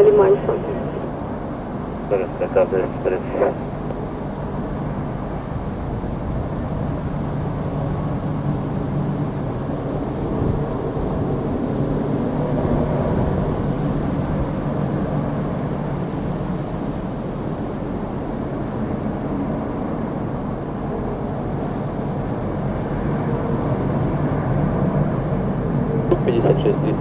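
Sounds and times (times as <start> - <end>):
turboprop engines droning: 0.0 - 27.0.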